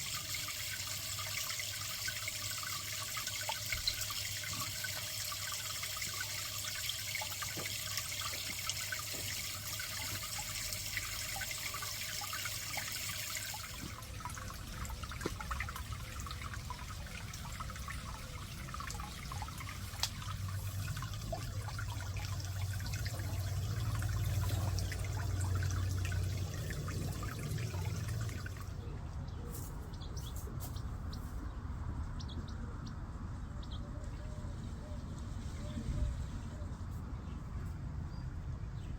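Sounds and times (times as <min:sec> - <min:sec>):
water trickling and splashing: 0:00.0 - 0:31.2.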